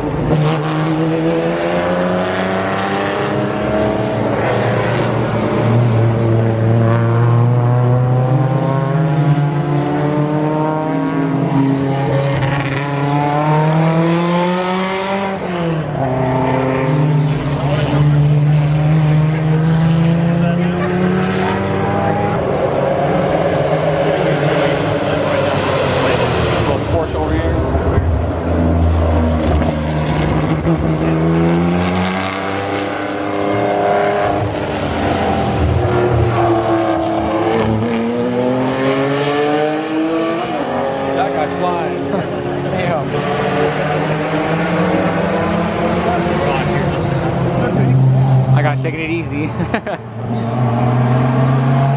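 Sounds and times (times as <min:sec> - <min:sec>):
racing car engine revving: 0:00.0 - 0:51.9.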